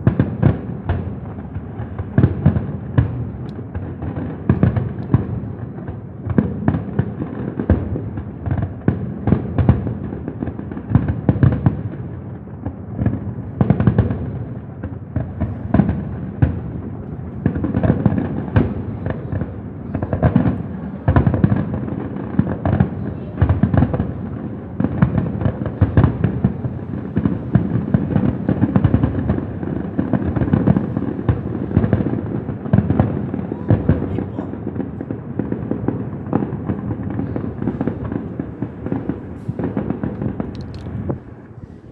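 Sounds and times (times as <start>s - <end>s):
fireworks booming and crackling: 0.0s - 41.9s.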